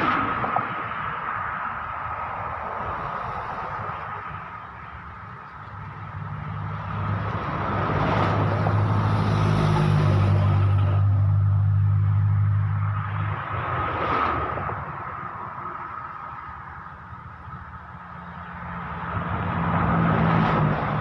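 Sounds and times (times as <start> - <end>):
another vehicle passing: 0.0 - 21.0
truck passing by: 0.0 - 21.0.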